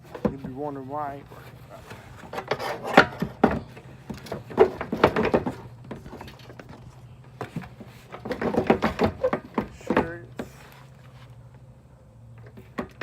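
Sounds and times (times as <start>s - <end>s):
knocks and scrapes of handled metal: 0.0s - 11.6s.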